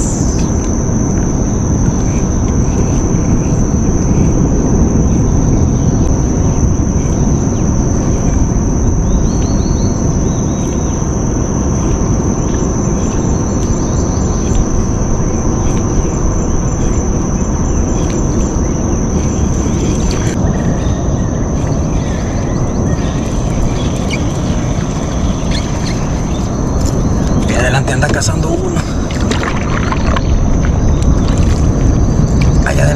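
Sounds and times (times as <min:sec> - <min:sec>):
insects droning: 0:00.0 - 0:32.9
low rumble: 0:00.0 - 0:32.9.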